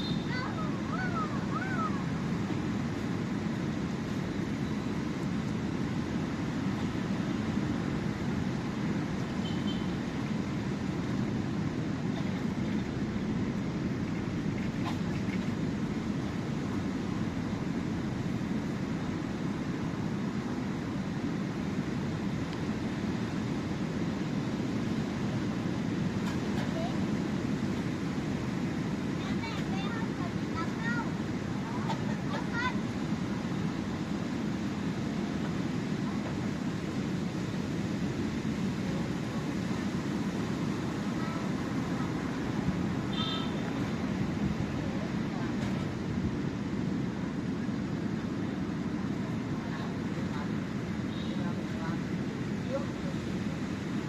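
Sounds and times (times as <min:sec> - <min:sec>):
sea waves washing on shore: 0:00.0 - 0:54.0.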